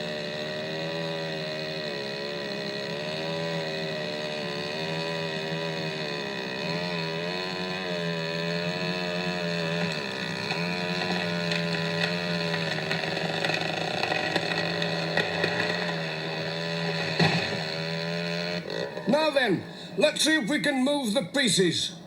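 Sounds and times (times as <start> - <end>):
chainsaw cutting wood: 0.0 - 20.1.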